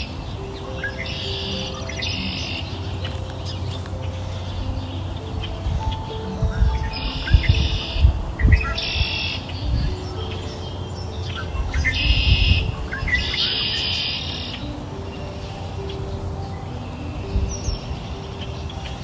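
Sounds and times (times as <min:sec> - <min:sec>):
small birds twittering: 0:00.0 - 0:19.0
soft background music: 0:00.0 - 0:19.0.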